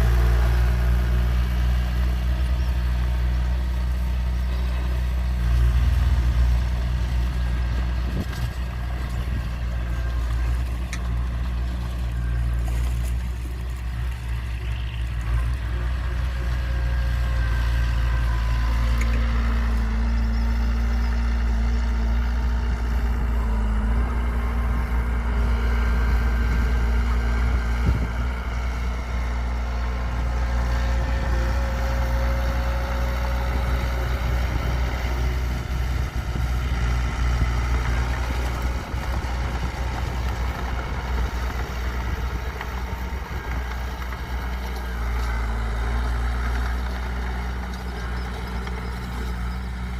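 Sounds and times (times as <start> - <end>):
heavy diesel engine rumbling: 0.0 - 49.9.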